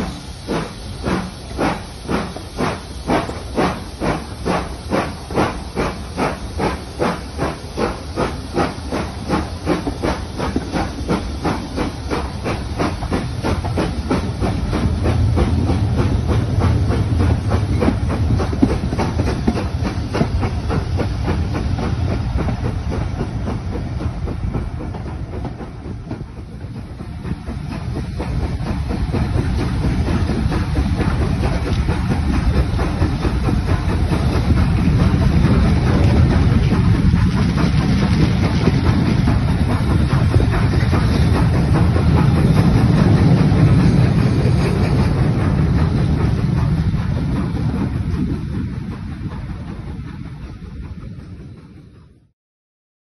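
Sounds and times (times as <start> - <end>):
steam hissing: 0.0 - 52.2
rhythmic steam beats: 0.0 - 52.3.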